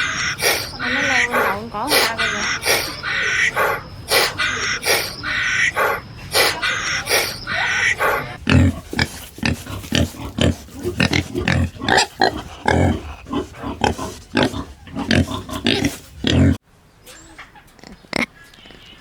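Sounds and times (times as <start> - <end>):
animal making short low calls: 0.0 - 19.0.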